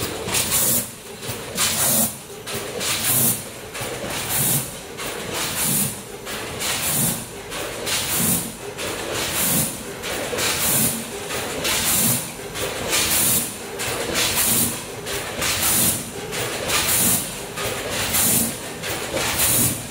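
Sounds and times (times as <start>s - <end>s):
packing machine running: 0.0s - 19.9s.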